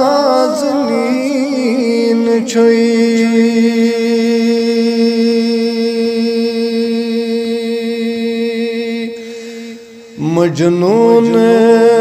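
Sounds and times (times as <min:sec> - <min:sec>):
man singing unaccompanied: 0:00.0 - 0:09.2, 0:10.0 - 0:12.0.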